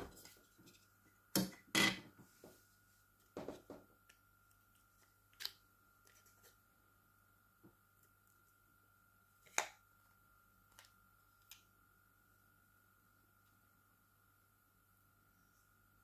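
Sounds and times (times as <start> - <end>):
faint high hum: 0.0 - 16.0.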